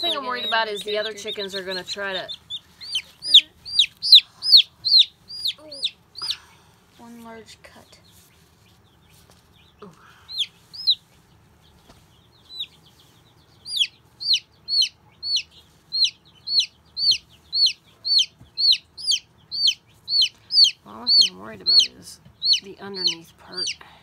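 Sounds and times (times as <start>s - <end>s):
baby chick peeping: 0.0s - 24.0s.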